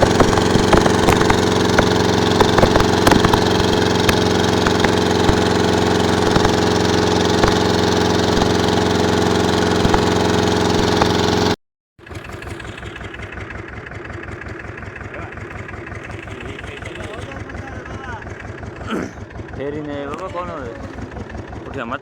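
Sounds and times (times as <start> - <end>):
engine running steadily: 0.0 - 22.0
engine with low thudding rhythm: 0.0 - 22.0.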